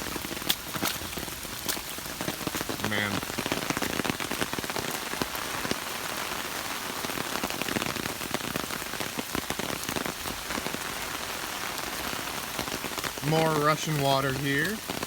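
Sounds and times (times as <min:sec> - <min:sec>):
heavy rain on ground and foliage: 0:00.0 - 0:15.0.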